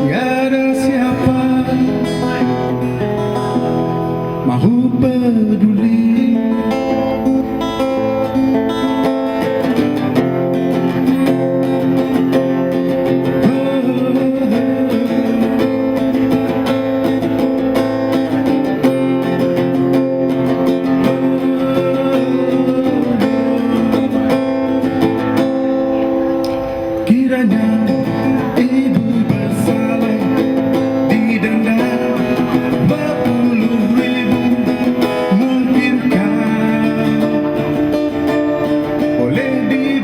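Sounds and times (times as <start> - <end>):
acoustic guitar strumming: 0.0 - 40.0
long held melody line: 0.0 - 40.0.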